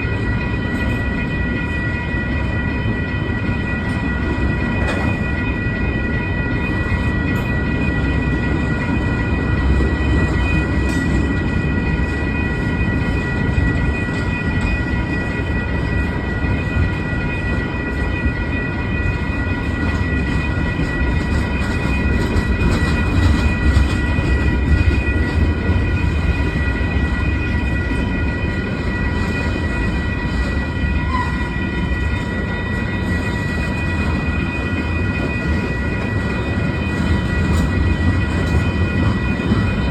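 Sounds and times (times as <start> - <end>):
high-pitched ringing: 0.0 - 39.9
train wheels rumbling on rail: 0.0 - 39.9.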